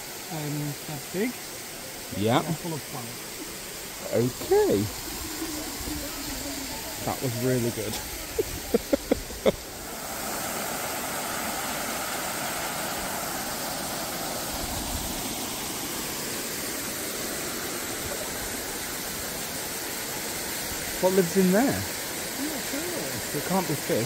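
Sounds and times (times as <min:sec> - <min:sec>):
waterfall splashing into pond: 0:00.0 - 0:24.0.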